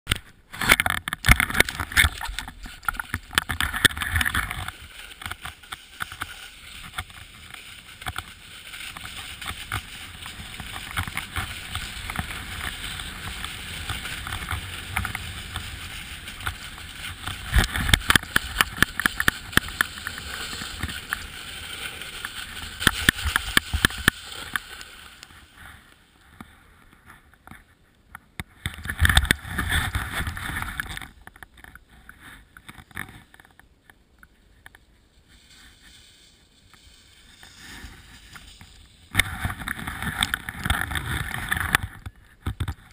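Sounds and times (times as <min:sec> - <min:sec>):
skis scraping over packed snow: 0:00.2 - 0:27.8, 0:28.6 - 0:42.9.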